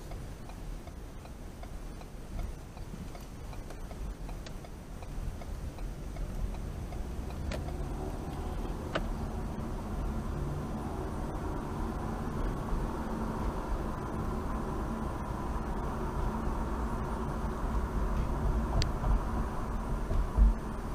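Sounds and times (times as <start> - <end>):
car engine and road rumble: 0.0 - 20.9
turn signal ticking: 0.0 - 20.9.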